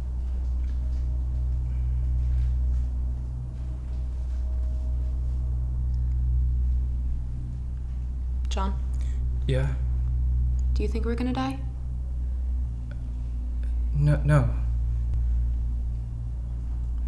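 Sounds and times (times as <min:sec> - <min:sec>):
low rumbling hum: 0:00.0 - 0:17.0.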